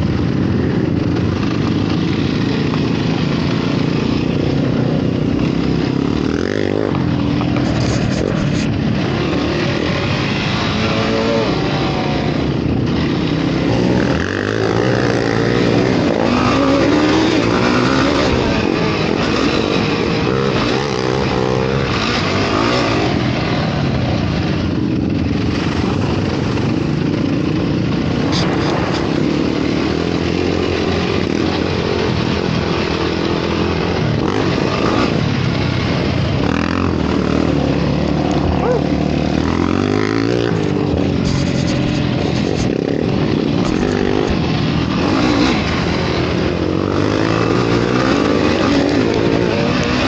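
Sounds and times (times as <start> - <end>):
quad bike engine revving: 0.0 - 50.0
wind noise: 0.0 - 50.0.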